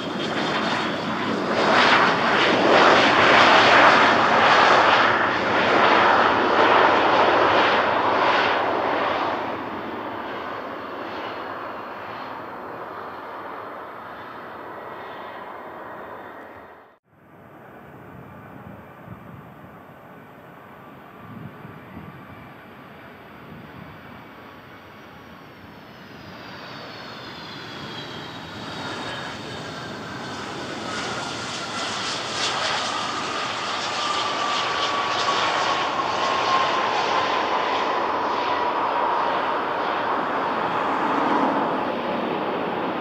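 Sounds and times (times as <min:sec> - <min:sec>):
airplane engines whining: 0:00.0 - 0:43.0.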